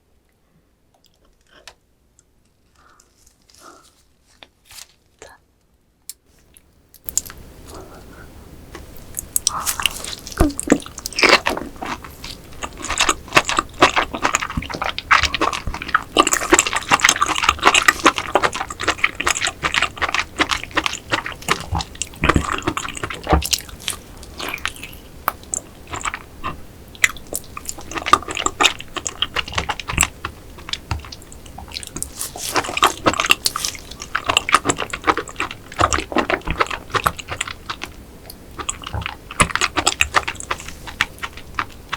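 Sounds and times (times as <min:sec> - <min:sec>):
wet chewing and crunching: 0:06.4 - 0:07.9, 0:08.8 - 0:41.9.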